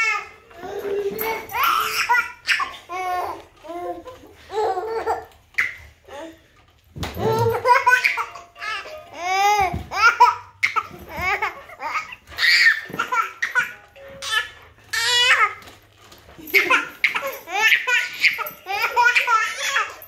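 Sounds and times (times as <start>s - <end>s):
baby laughing: 0.0s - 6.3s, 7.2s - 15.6s, 16.4s - 20.0s.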